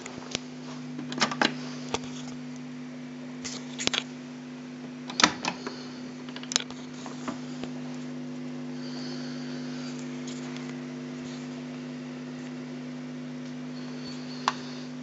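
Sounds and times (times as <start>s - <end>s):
cassette recorder hum: 0.0s - 15.0s.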